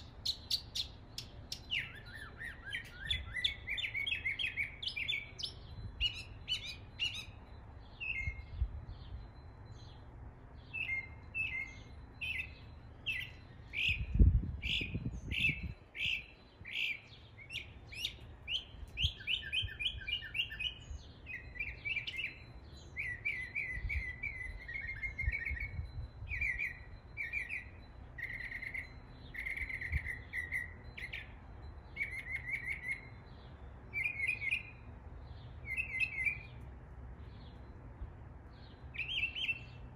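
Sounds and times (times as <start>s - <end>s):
mockingbird singing: 0.0s - 37.7s, 38.5s - 39.9s.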